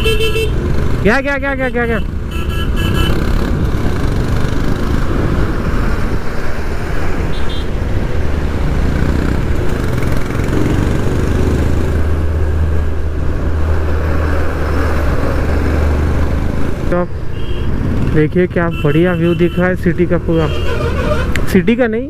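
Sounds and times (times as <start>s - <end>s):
nearby traffic: 0.0s - 22.0s
road and wind noise: 0.0s - 22.0s.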